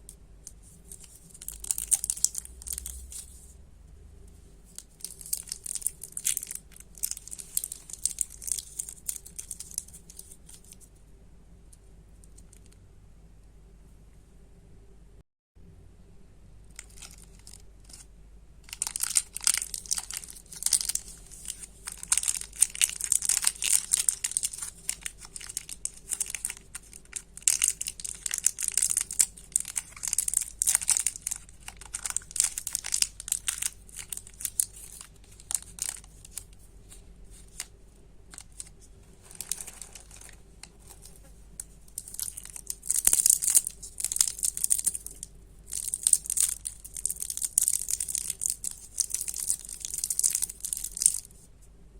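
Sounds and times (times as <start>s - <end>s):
wrappers crinkling: 0.4s - 3.5s, 4.7s - 10.8s, 18.7s - 51.4s.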